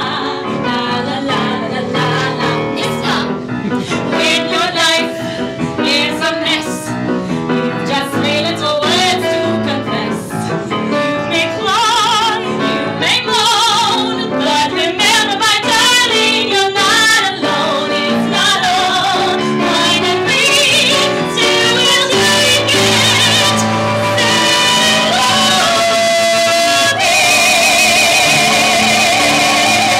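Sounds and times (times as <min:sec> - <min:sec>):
women singing duet: 0:00.0 - 0:03.4, 0:04.0 - 0:10.6, 0:11.2 - 0:29.9
grand piano: 0:00.0 - 0:29.9.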